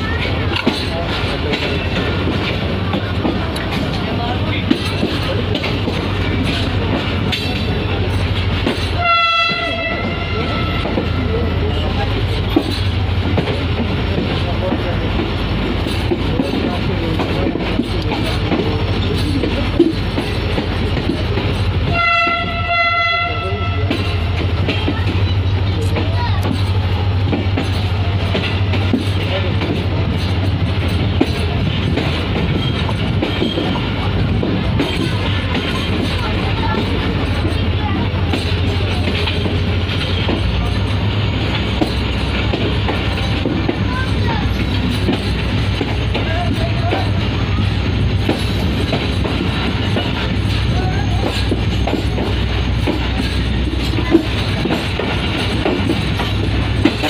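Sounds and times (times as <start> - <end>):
clacks and knocks: 0.0 - 57.0
train wheels rumbling on rail: 0.0 - 57.0.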